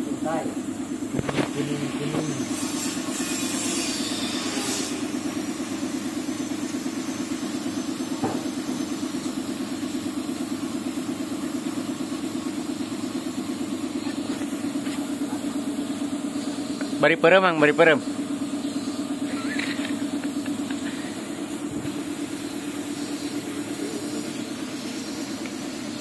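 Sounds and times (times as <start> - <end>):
motor humming with fast pulse: 0.0 - 26.0.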